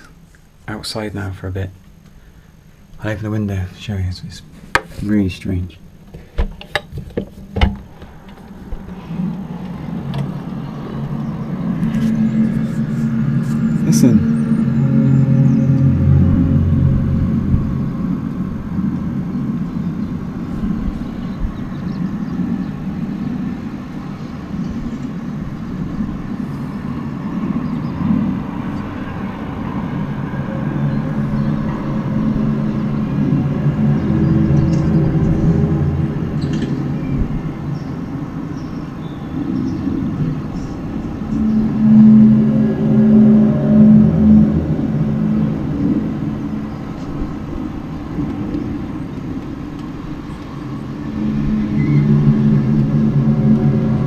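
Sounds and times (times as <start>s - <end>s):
low droning hum: 0.0s - 54.0s.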